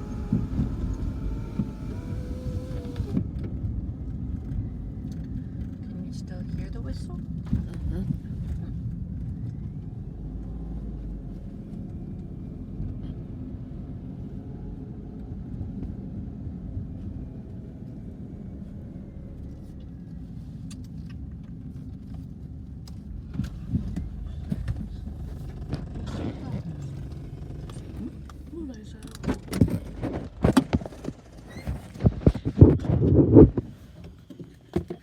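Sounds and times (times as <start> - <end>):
low vehicle rumble: 0.0 - 35.0.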